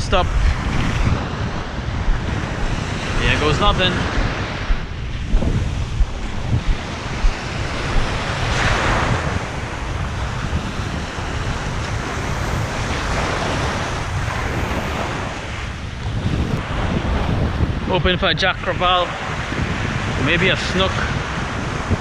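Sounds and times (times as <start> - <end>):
wave breaking: 0.0 - 17.9
ocean surf washing onto beach: 0.0 - 22.0
wind rumbling on microphone: 0.0 - 22.0.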